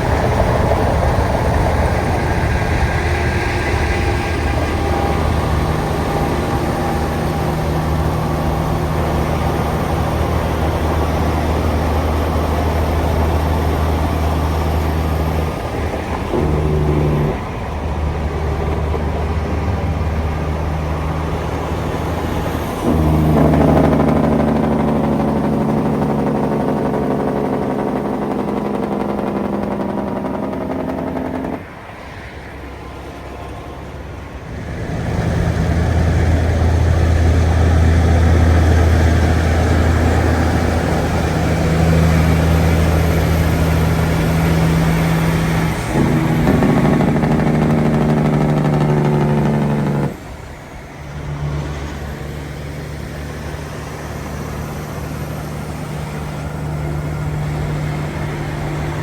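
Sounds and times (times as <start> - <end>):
truck engines droning: 0.0 - 59.0.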